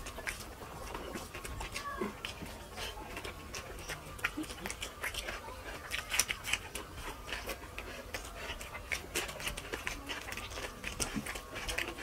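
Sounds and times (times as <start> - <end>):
chewing and lip-smacking: 0.0 - 12.0.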